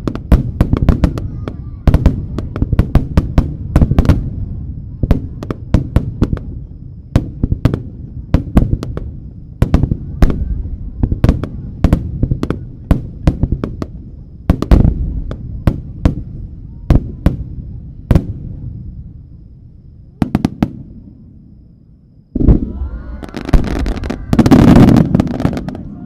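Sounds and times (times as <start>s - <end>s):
fireworks bangs and crackling: 0.0s - 19.4s, 20.0s - 21.3s, 22.3s - 26.0s.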